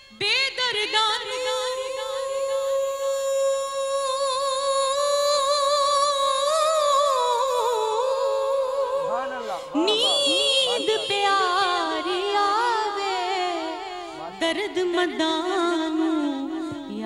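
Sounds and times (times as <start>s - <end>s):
woman singing into a microphone: 0.0s - 17.0s.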